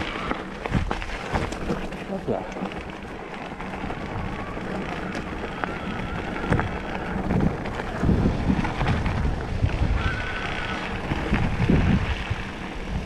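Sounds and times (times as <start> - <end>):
bike rattling over bumps: 0.0 - 13.0
tyres rumbling over gravel: 0.0 - 13.0
wind buffeting microphone: 0.0 - 13.0.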